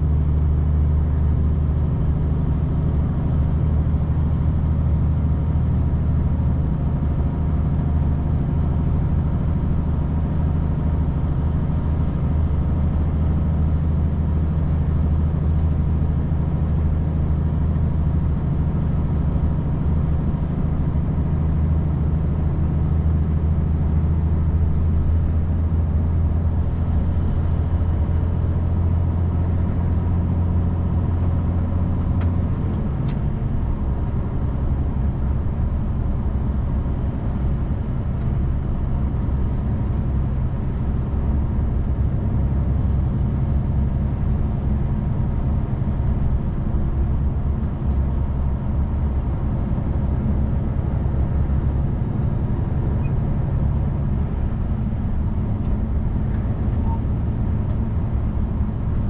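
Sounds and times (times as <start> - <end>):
vehicle engine and tyre drone: 0.0 - 59.0.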